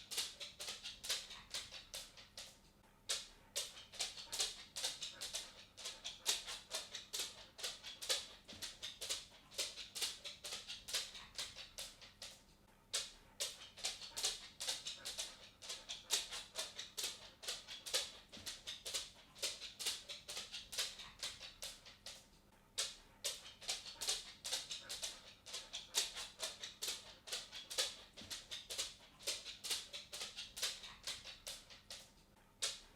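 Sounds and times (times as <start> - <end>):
cat footsteps ticking and tapping: 0.0 - 32.9.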